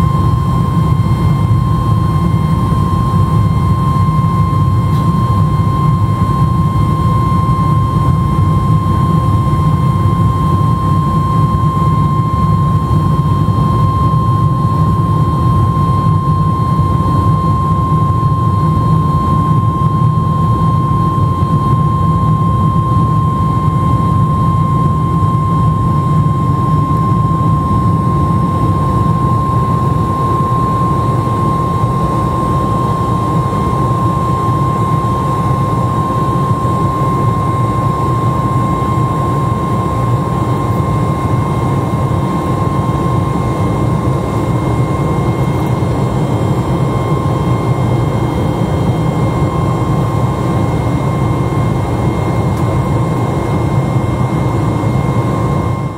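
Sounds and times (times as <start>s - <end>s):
high steady whining tone: 0.0s - 55.9s
jet engine rumble in cabin: 0.0s - 55.9s.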